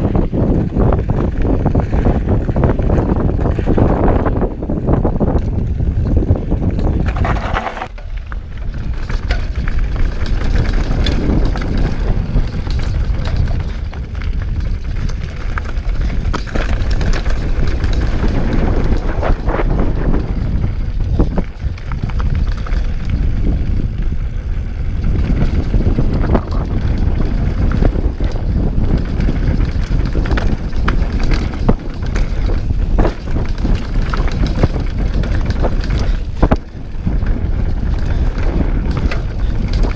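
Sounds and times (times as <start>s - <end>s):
bike rattling: 0.0s - 39.9s
wind on microphone: 0.0s - 39.9s
tyres rolling over dirt: 5.3s - 39.9s.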